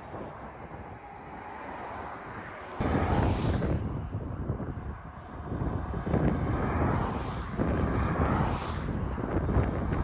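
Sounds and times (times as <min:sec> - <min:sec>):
wind on microphone: 0:00.0 - 0:01.4, 0:02.2 - 0:10.0
road traffic: 0:00.0 - 0:10.0.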